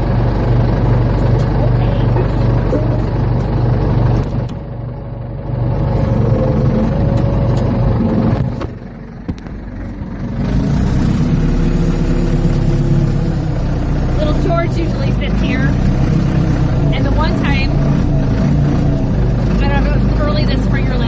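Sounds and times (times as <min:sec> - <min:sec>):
backhoe engine running: 0:00.0 - 0:21.0.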